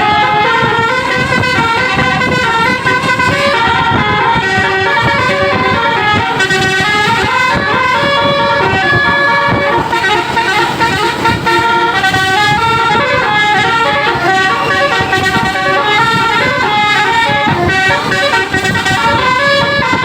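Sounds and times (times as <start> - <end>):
musical air horn tune: 0.0 - 20.0.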